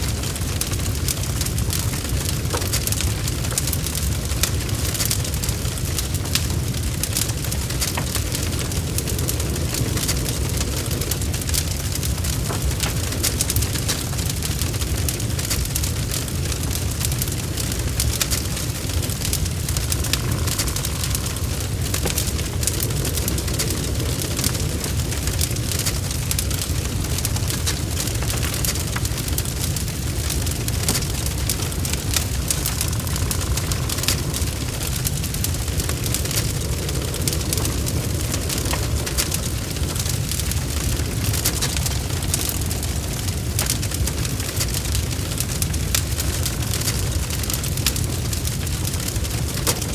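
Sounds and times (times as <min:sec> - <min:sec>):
low rumble of fire: 0:00.0 - 0:49.9
wood fire crackling: 0:00.0 - 0:49.9.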